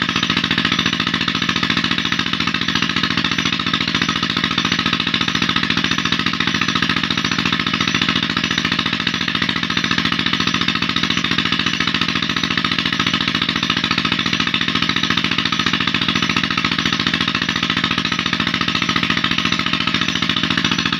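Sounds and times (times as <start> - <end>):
diesel engine chugging: 0.0 - 20.9.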